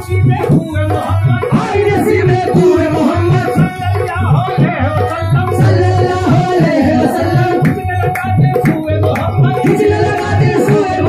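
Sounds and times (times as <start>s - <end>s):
harmonium: 0.0s - 11.0s
men singing devotional song: 0.0s - 11.0s
tabla rhythm: 0.0s - 11.0s.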